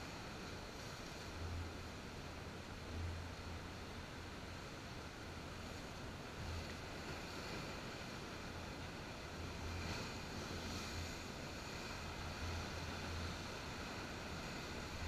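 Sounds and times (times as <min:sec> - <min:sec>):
surf washing over rocks: 0:00.0 - 0:15.0
wind rumble on microphone: 0:00.0 - 0:15.0.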